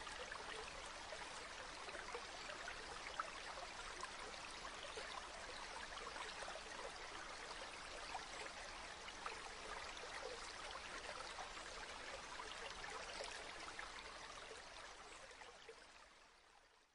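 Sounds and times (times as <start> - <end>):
trickling water: 0.0 - 16.9.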